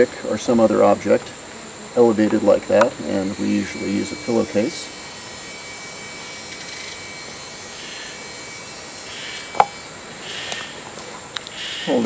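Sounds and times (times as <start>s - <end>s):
background hiss: 0.0s - 12.0s
rainforest insect drone: 0.0s - 12.0s.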